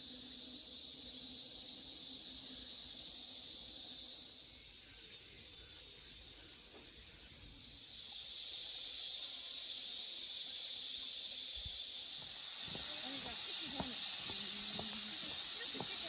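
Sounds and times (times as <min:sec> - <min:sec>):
cicadas calling: 0:00.0 - 0:16.0.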